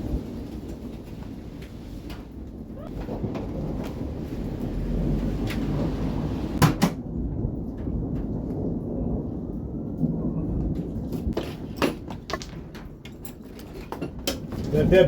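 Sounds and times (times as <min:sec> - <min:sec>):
distant thunder rumble: 0:00.0 - 0:13.0, 0:14.4 - 0:15.0.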